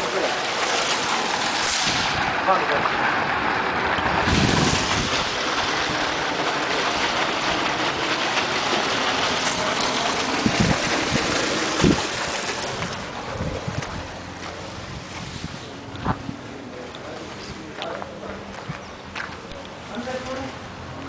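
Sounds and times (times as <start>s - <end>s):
water gushing onto concrete: 0.0s - 21.0s.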